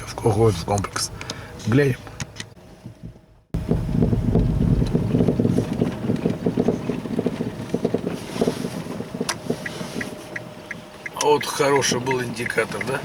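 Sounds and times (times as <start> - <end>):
car cabin road rumble: 0.0 - 13.0
suspension knocks: 2.2 - 13.0.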